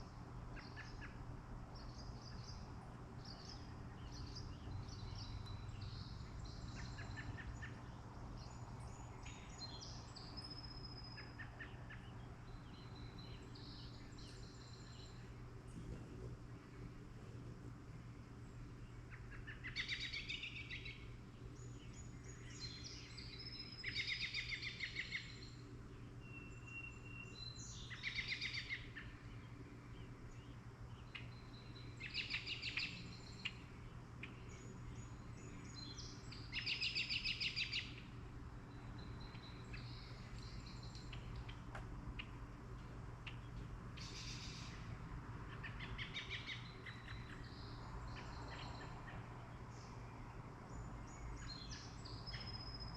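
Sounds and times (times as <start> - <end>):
songbirds singing trilled phrases: 0.0 - 15.6, 18.2 - 52.9
steady low hum: 0.0 - 52.9.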